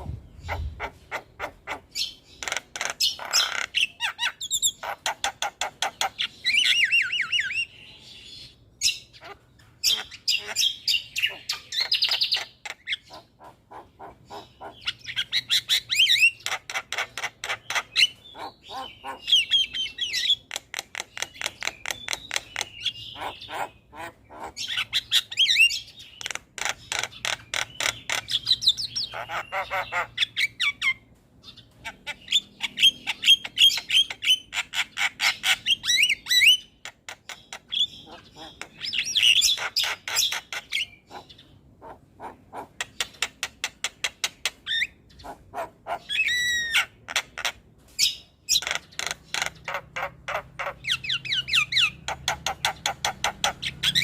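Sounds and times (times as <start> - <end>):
birds chattering harshly: 0.0 - 54.0.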